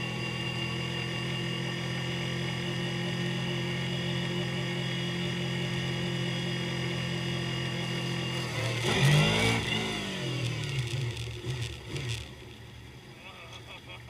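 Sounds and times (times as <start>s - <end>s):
motorcycle engine running: 0.0s - 13.7s
motorcycle revving: 0.0s - 13.9s.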